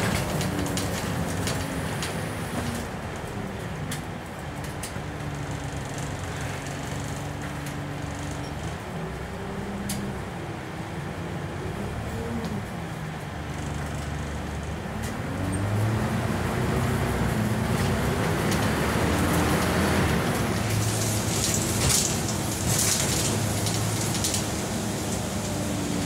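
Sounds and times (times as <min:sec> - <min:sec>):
bus diesel engine accelerating: 0:00.0 - 0:26.0
road noise: 0:00.0 - 0:26.0.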